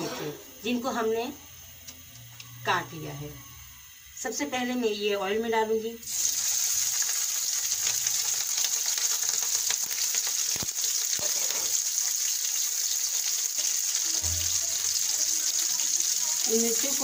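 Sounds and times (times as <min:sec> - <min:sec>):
chillies sizzling in hot oil: 0:00.6 - 0:17.0.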